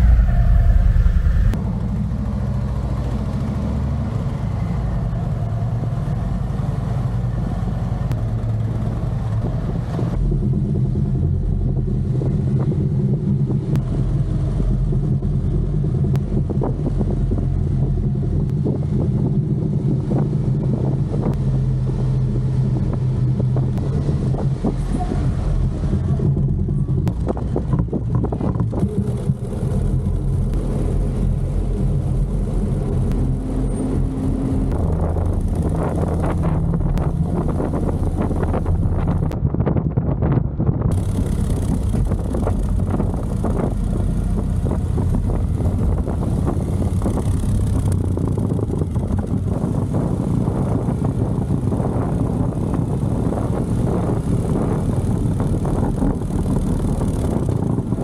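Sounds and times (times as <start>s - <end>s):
motorcycle engine rumbling: 0.0s - 6.5s, 7.2s - 58.0s.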